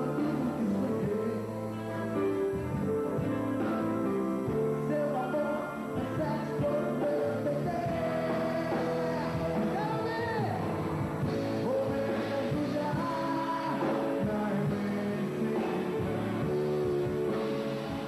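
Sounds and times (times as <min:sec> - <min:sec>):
live pop-rock band music: 0:00.0 - 0:18.0.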